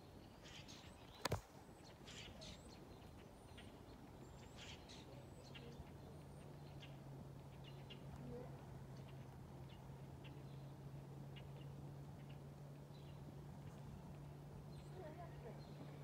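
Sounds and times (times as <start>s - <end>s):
low steady hum: 0.0s - 16.0s
small birds chirping: 0.0s - 16.0s.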